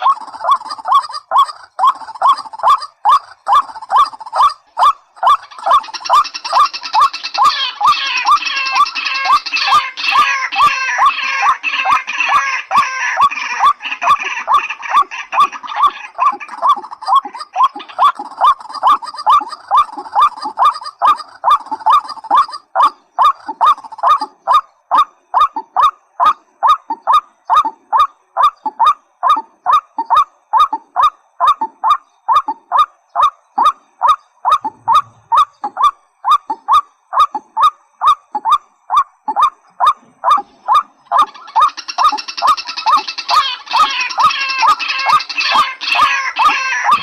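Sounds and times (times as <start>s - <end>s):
bird calling downward-sliding notes: 0.0s - 47.0s
high chattering bird call: 0.0s - 47.0s.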